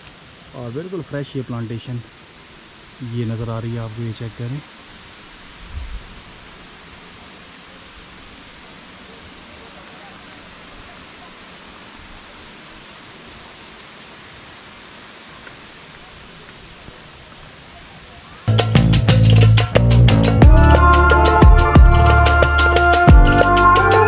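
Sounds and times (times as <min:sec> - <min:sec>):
insect chirping trill: 0:00.0 - 0:19.8
steady outdoor hiss: 0:00.0 - 0:24.0.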